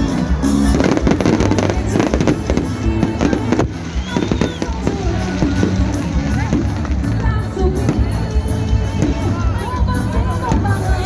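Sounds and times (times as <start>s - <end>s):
music playing: 0.0s - 11.0s
fireworks banging: 0.6s - 11.0s.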